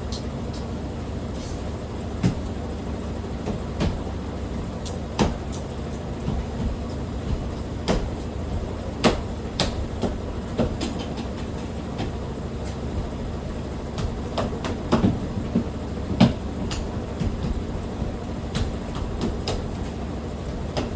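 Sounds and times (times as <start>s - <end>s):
washing machine spin rumble: 0.0s - 20.9s
knocks and rattles: 3.3s - 20.9s.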